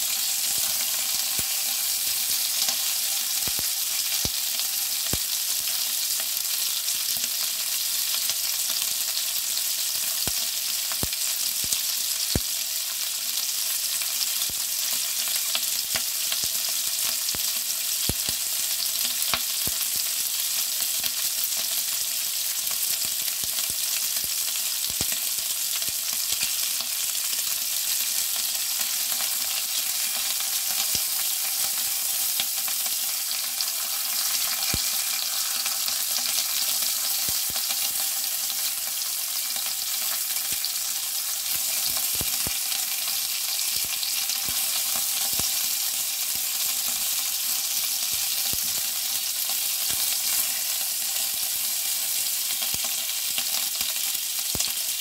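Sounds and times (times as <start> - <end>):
meat sizzling in a pan: 0.0 - 55.0.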